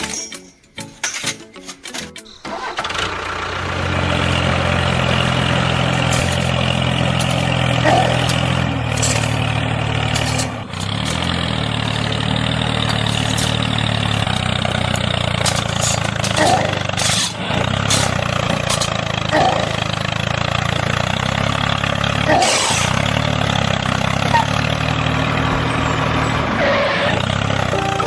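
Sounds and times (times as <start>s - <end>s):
small tractor engine running: 2.5s - 28.0s.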